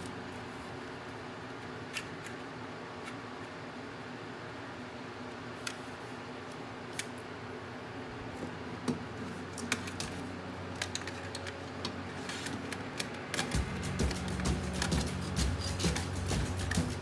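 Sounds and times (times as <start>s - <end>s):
computer low hum: 0.0s - 17.0s.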